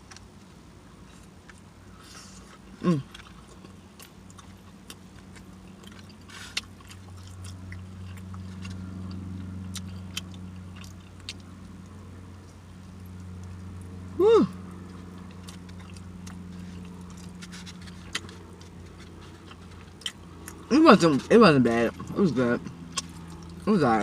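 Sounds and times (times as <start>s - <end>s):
food being chewed: 0.0s - 24.0s.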